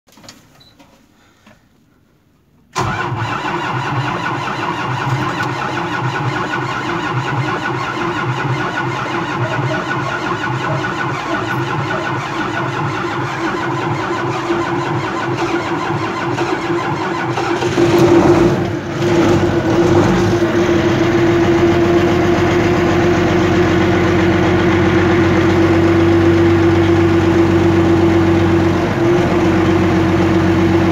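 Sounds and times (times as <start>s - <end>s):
tractor diesel engine starting: 2.7s - 30.9s
diesel engine idling: 2.8s - 30.9s.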